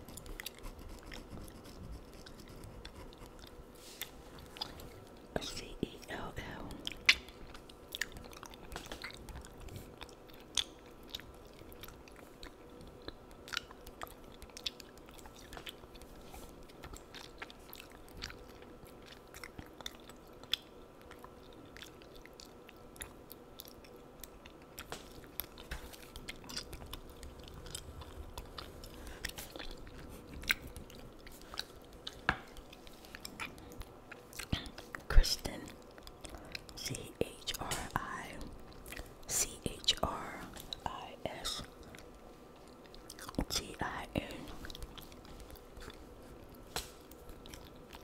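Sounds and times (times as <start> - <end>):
faint steady hum: 0.0 - 48.0
gum chewing smacks and clicks: 0.0 - 48.0.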